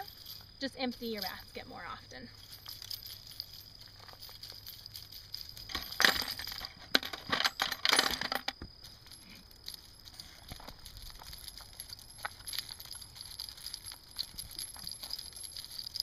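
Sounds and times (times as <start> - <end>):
brass casings clinking in wire basket: 0.0 - 16.0.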